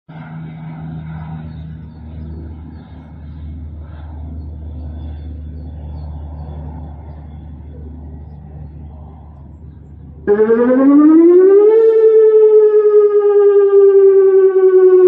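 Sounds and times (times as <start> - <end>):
low urban rumble: 0.1 - 15.0.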